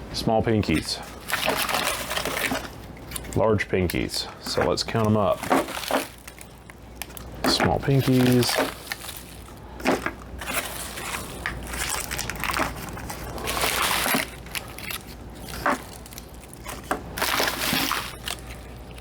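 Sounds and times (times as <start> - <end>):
plastic bags crinkling: 0.6 - 19.0.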